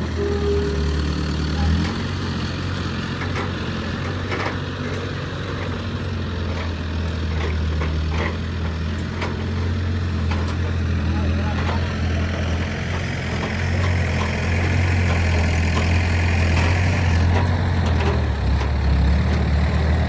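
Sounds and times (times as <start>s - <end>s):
crane diesel engine running: 0.0s - 20.0s.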